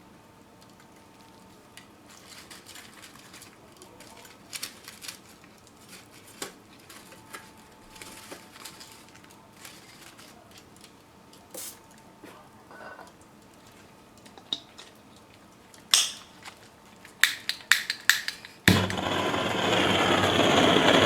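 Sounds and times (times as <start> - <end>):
small fire crackling and popping: 0.4 - 12.2, 13.1 - 21.0.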